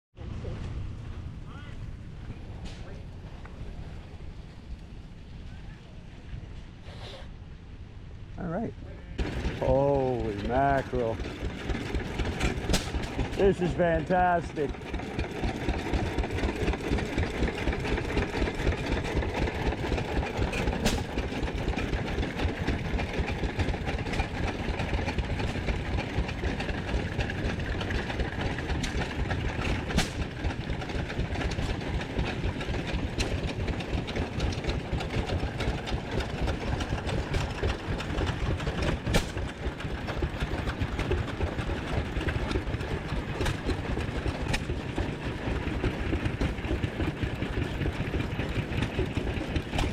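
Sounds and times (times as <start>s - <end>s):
engines chugging: 7.7s - 49.9s.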